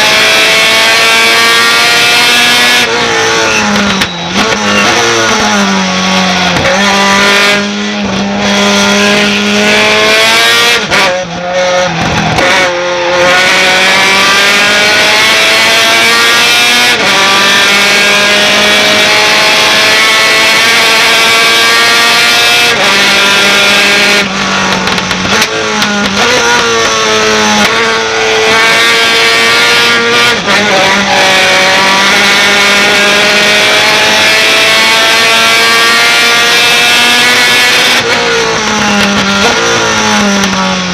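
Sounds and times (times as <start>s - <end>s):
truck engine at full throttle: 0.0s - 40.9s.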